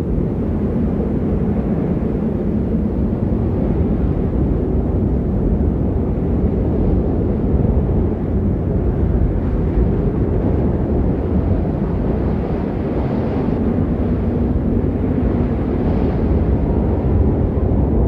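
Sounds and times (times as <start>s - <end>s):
snowstorm wind roar: 0.0s - 18.0s.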